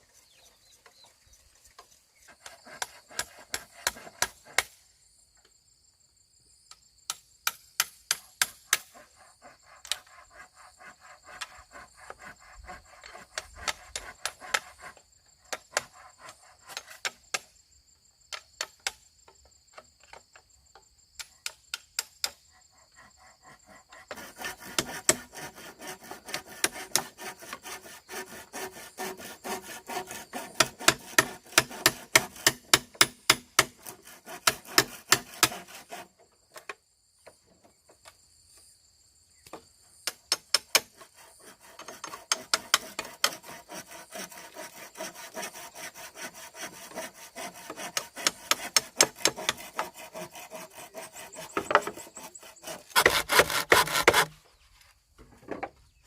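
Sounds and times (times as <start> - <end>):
hand tool scraping wood: 0.0 - 4.8, 7.4 - 17.5, 21.4 - 36.7, 40.1 - 56.0.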